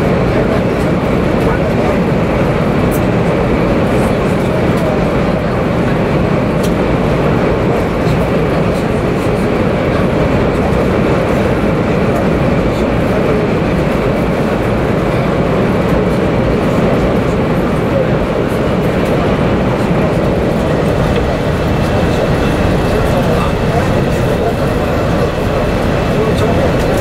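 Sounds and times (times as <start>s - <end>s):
train running noise from inside cabin: 0.0s - 27.0s.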